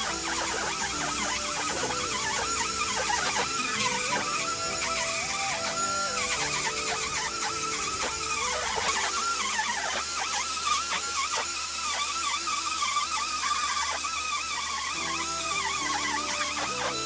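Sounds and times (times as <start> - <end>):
hand grinder whining against steel: 0.0 - 17.0.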